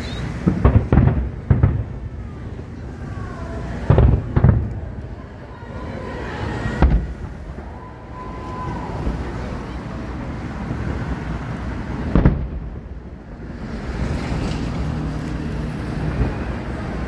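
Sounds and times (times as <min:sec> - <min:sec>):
fireworks booming with echo: 0:00.0 - 0:14.9.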